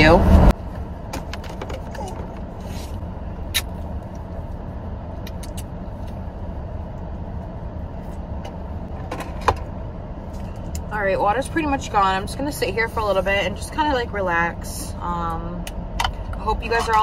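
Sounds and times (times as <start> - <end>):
car cabin hum: 0.0 - 17.0.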